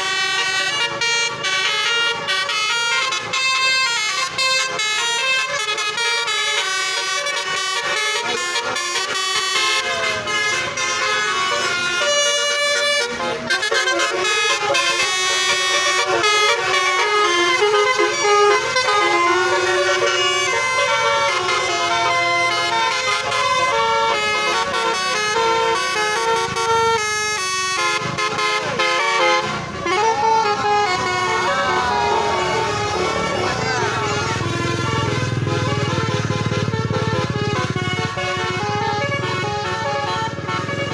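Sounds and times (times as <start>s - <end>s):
multi-tone bus horns playing melodies: 0.0s - 40.9s.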